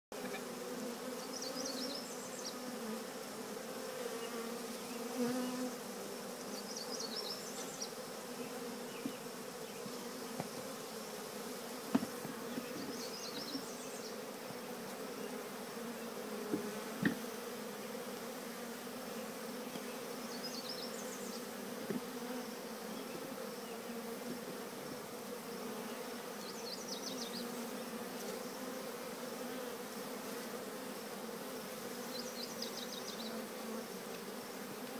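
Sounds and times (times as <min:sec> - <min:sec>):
bee swarm humming: 0:00.1 - 0:34.9.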